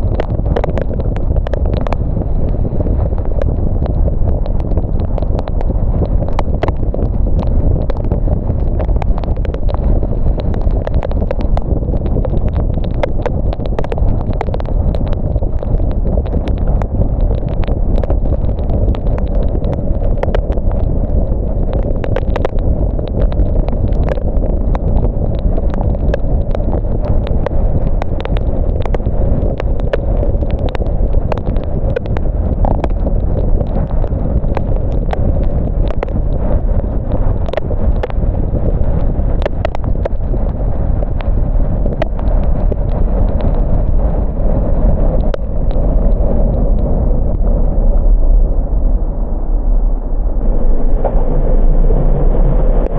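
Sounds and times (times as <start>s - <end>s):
car driving on wet road: 0.0s - 47.4s
raindrop ticks: 0.0s - 48.9s.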